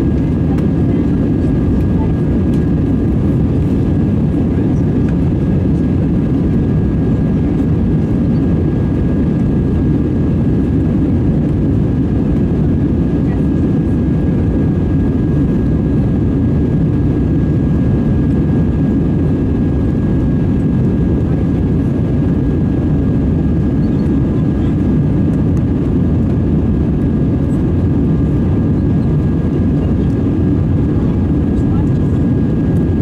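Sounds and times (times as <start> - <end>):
jet engine low rumble: 0.0 - 33.0.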